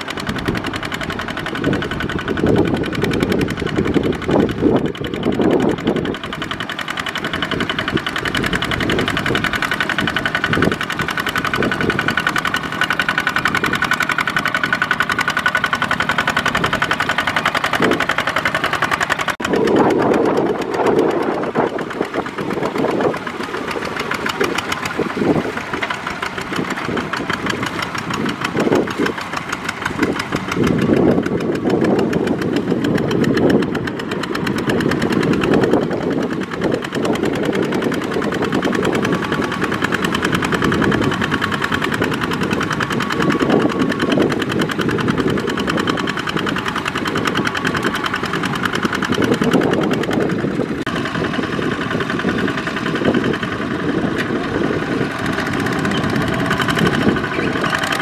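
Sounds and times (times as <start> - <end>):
diesel engine knocking under load: 0.0 - 58.0.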